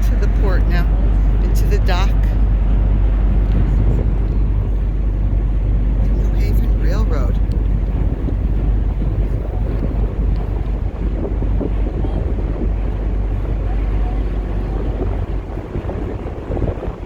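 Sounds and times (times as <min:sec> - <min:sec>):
passing train rumble: 0:00.0 - 0:17.0
wind buffeting microphone: 0:00.0 - 0:17.0.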